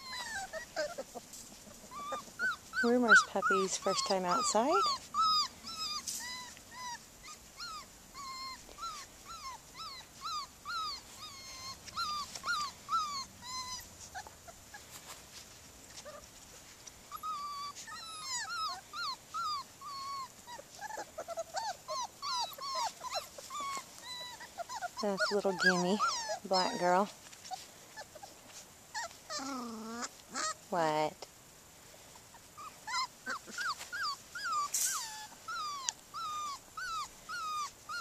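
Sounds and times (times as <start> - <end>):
puppies whining and yelping: 0.0 - 30.7, 31.9 - 38.0.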